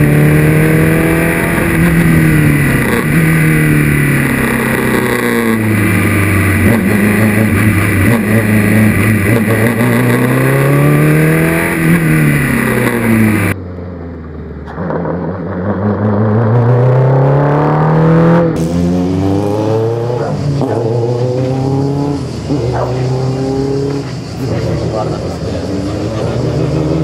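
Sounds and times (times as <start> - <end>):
racing car engine accelerating: 0.0 - 27.0.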